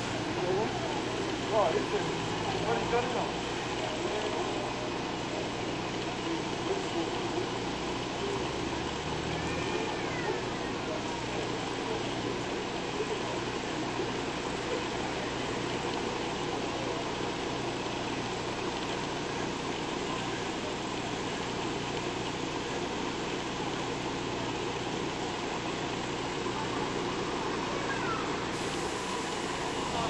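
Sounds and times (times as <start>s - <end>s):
bus engine idling: 0.0s - 30.0s
street noise: 0.0s - 30.0s.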